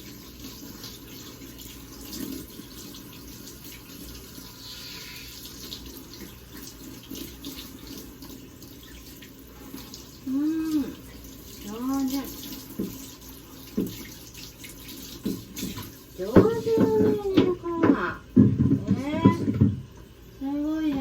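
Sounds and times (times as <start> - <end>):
water running from a tap: 0.0 - 21.0.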